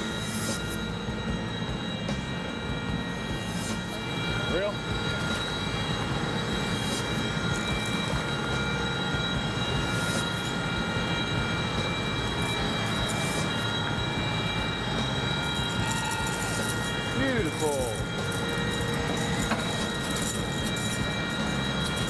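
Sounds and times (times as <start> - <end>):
constant machinery rumble: 0.0 - 22.0
high whining machinery tones: 0.0 - 22.0.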